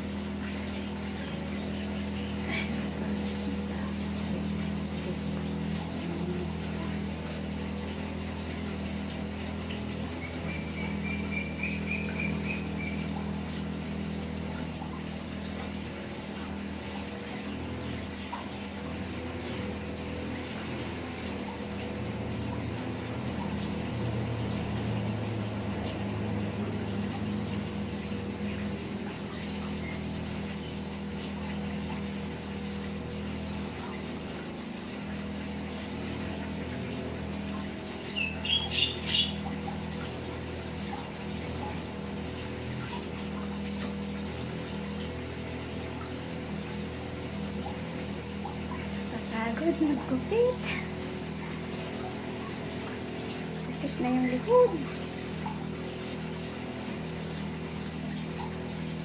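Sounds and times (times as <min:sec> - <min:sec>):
low hum with hiss: 0:00.0 - 0:59.0.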